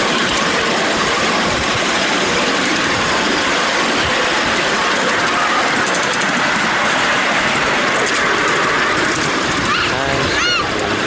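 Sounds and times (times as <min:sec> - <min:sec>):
miniature train wheels rumbling on rail: 0:00.0 - 0:11.0.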